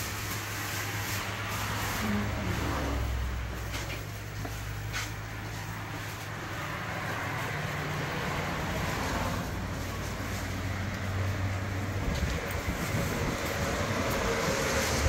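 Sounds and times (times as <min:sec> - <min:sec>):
vehicle hum with road noise: 0:00.0 - 0:15.0.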